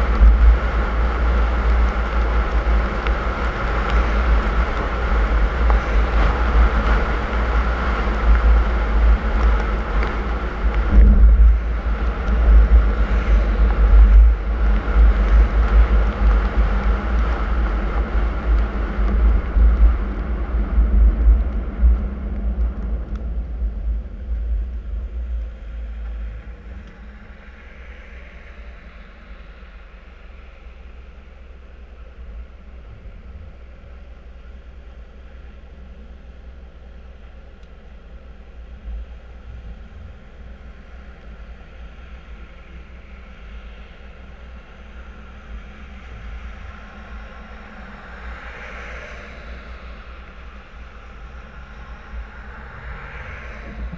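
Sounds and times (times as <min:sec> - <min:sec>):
car driving on snowy road: 0:00.0 - 0:53.9.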